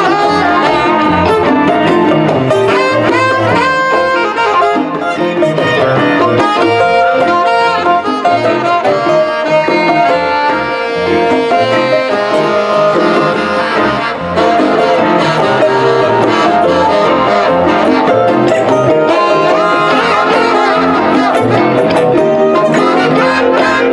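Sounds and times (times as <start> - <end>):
live band playing: 0.0 - 23.9
saxophone: 0.0 - 23.9.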